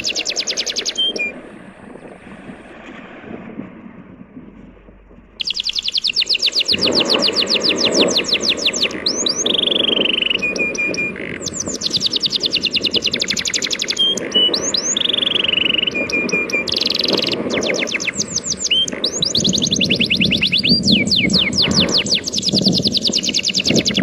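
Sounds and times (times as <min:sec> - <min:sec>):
songbird singing: 0:00.0 - 0:02.2, 0:05.4 - 0:24.0.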